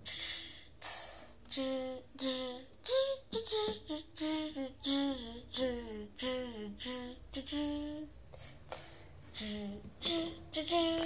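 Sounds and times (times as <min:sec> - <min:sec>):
person humming a melody: 0:00.0 - 0:11.0.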